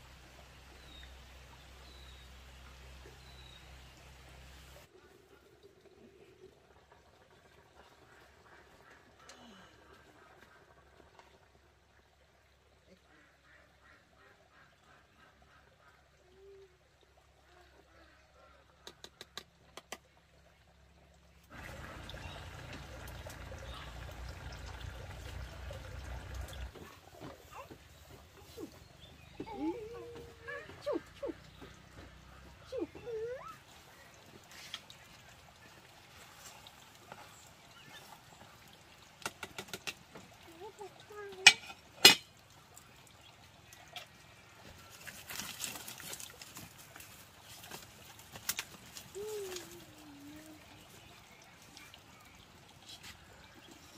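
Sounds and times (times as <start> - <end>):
water boiling in a pot: 0.0 - 14.6, 20.1 - 30.9, 31.5 - 53.9.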